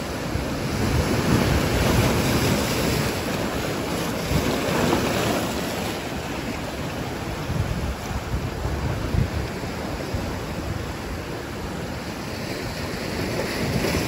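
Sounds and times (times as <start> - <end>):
surf breaking over rocks: 0.0 - 14.0.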